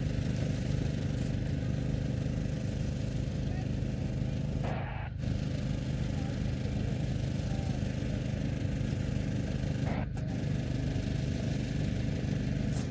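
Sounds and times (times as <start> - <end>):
small engine idling: 0.0 - 12.9.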